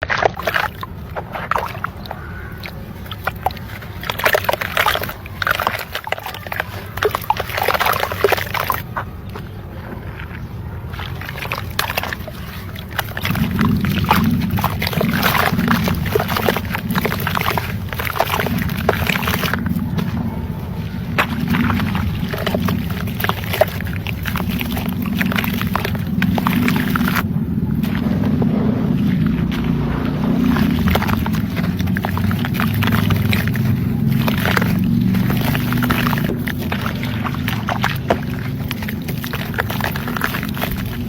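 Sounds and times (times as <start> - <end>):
cement crumbling crackles: 0.0 - 41.0
low steady rumble: 0.0 - 41.0
water sloshing and splashing: 0.0 - 41.0.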